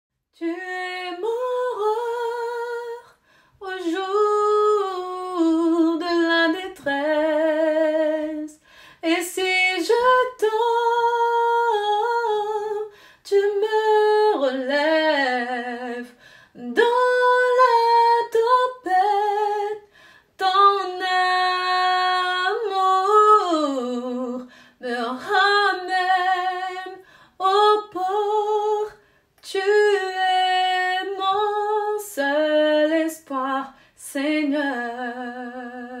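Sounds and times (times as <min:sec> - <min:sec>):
woman singing unaccompanied: 0:00.4 - 0:36.0.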